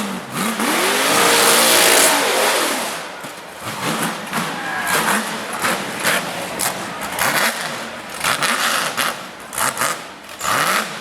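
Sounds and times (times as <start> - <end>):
buggy engine revving hard: 0.0 - 11.0.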